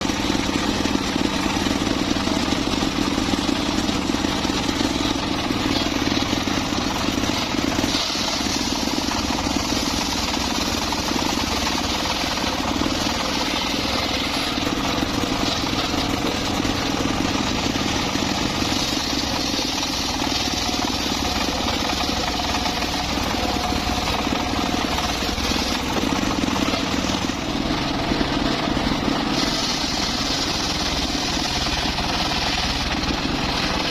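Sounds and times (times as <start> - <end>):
circular saw cutting wood: 0.0 - 33.9.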